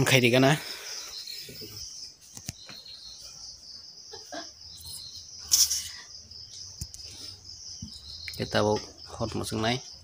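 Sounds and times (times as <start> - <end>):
insect chirring: 0.0 - 10.0.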